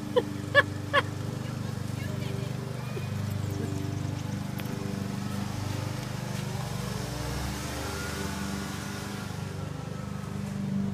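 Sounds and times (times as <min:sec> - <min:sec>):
car engine running: 0:00.0 - 0:10.9.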